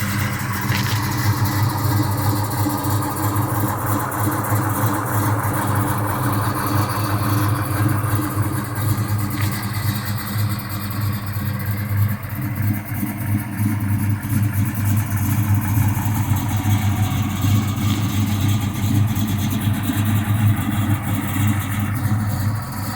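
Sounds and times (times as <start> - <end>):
car engine idling roughly: 0.0 - 22.9.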